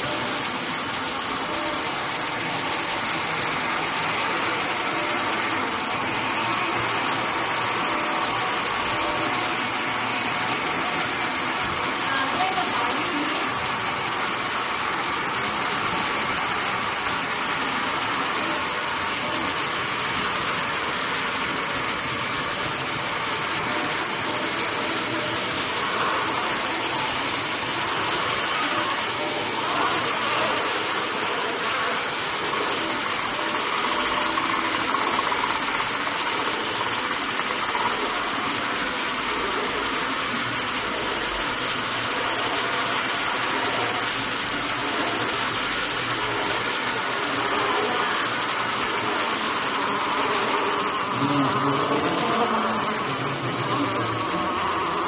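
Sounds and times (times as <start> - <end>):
laminating machine running: 0.0 - 55.0.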